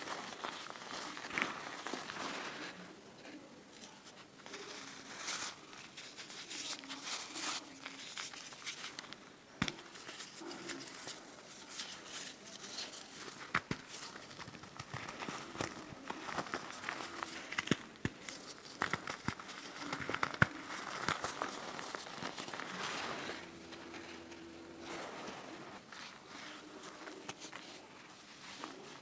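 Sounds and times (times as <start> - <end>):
chalk crumbling in hands: 0.0 - 29.0.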